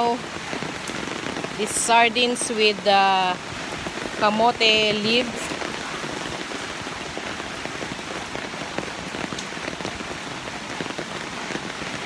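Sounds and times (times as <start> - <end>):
individual raindrop hits: 0.0 - 2.6, 3.3 - 12.0
steady rain splashing: 0.0 - 12.0.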